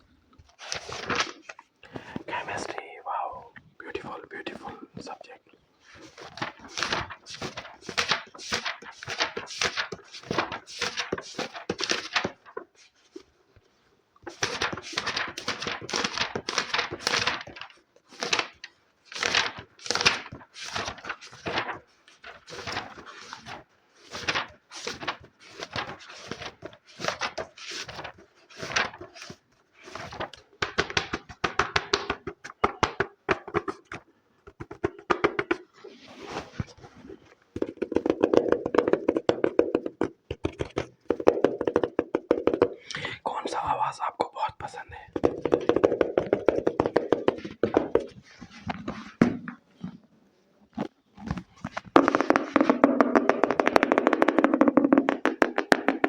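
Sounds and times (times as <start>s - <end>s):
tapping and scratching on a book: 0.5s - 3.0s, 3.8s - 50.0s, 50.7s - 56.0s.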